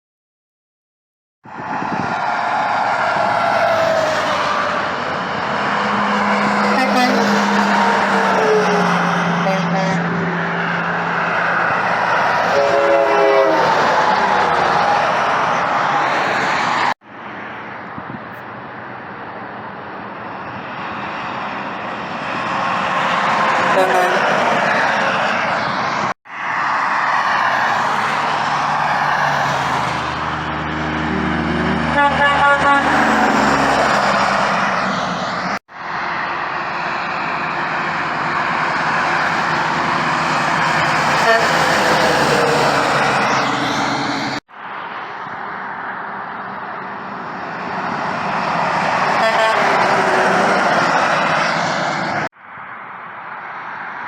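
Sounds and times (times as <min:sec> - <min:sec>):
heavy trucks passing: 0:01.5 - 0:54.0.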